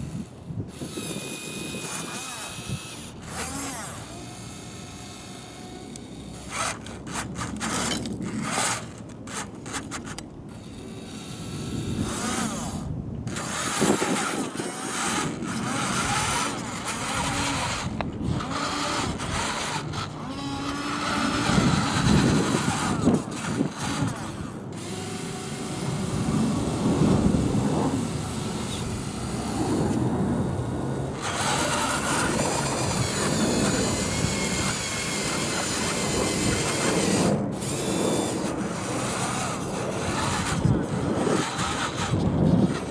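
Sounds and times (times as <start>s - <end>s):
small electric motors whining: 0.0s - 42.9s.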